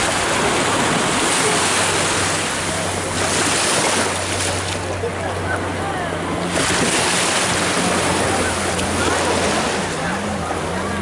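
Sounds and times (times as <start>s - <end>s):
low engine hum: 0.0s - 11.0s
ocean surf: 0.0s - 11.0s.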